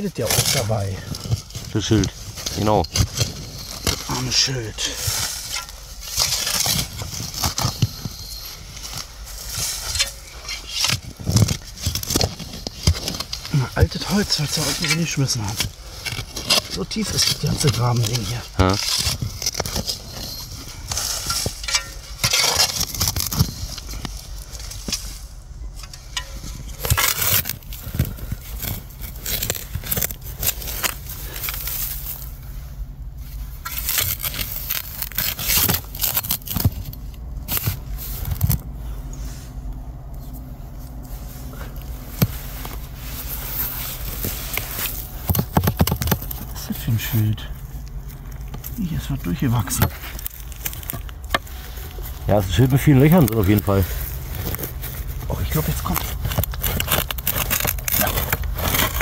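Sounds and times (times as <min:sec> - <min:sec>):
spade scraping and crunching soil: 0:00.0 - 0:59.0.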